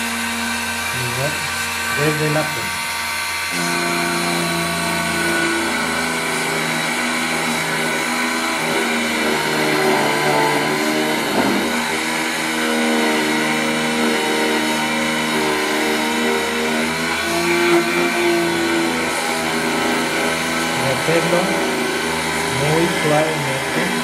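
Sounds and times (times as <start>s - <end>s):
key cutting machine humming: 0.0s - 24.0s.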